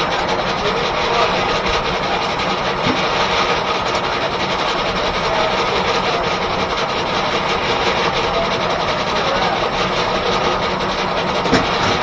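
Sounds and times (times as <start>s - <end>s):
steam-driven sawmill running: 0.0s - 12.0s.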